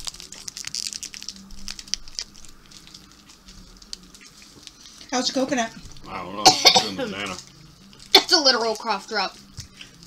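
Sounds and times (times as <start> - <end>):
foil wrappers crackling: 0.0 - 10.0.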